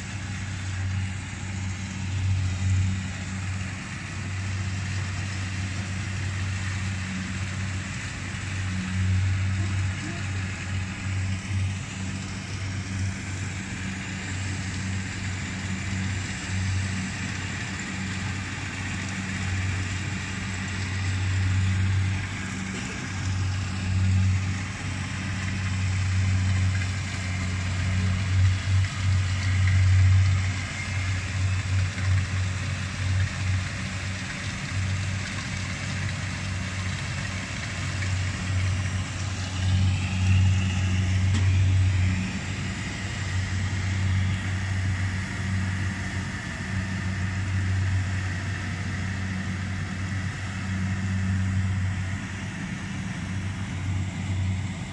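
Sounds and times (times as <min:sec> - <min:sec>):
combine harvester engine drone: 0:00.0 - 0:54.9.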